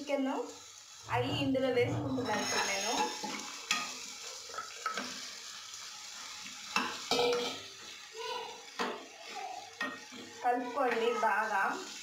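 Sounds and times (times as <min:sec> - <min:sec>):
low sizzle: 0:00.0 - 0:12.0
ladle stirring food in a pan: 0:00.5 - 0:12.0.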